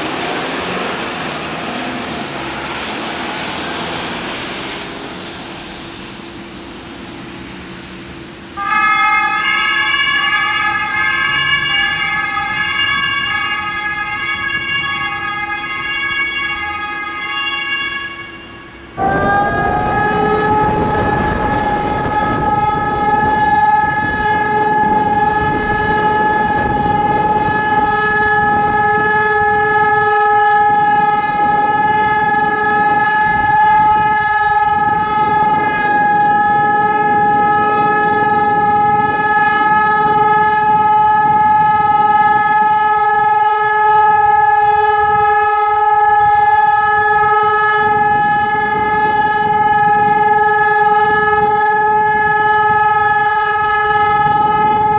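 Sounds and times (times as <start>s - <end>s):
steady siren tone: 0.0s - 54.9s.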